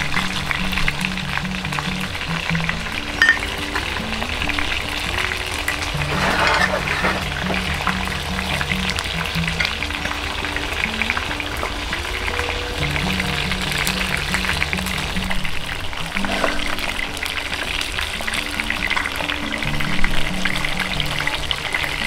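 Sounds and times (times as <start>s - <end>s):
background music: 0.0s - 22.0s
fish deep-frying in oil: 0.0s - 22.0s.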